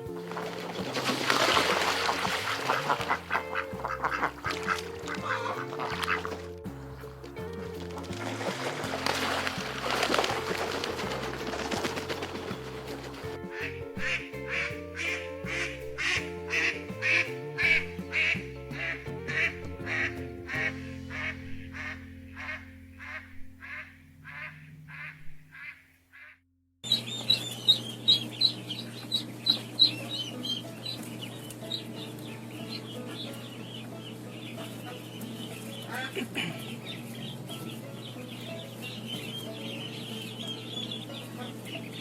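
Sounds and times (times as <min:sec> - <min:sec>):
duck quacking: 0:00.0 - 0:07.1, 0:07.9 - 0:42.0
soft background music: 0:00.0 - 0:25.1, 0:26.9 - 0:42.0.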